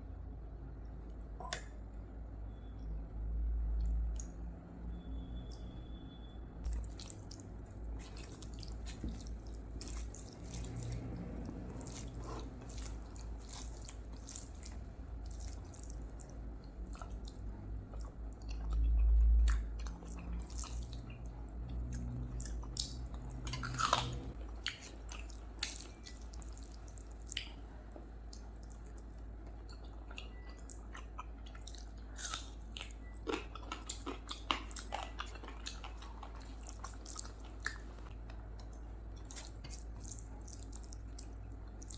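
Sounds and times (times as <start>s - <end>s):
wet chewing and mouth clicks: 6.6s - 27.6s, 28.2s - 41.9s.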